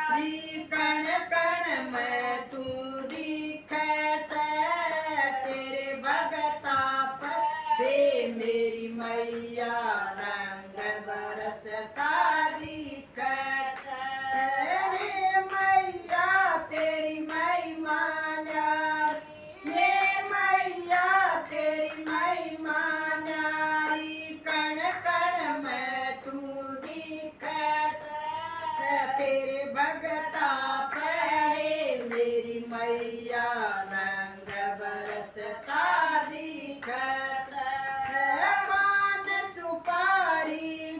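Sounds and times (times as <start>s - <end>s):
women singing together: 0.0s - 40.9s
hand claps: 0.2s - 9.6s, 10.2s - 40.8s.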